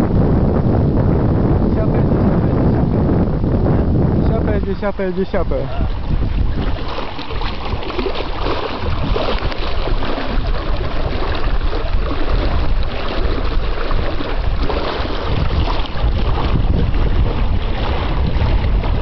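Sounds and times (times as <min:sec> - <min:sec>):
water rushing along hulls: 0:00.0 - 0:19.0
wind buffeting microphone: 0:00.0 - 0:19.0.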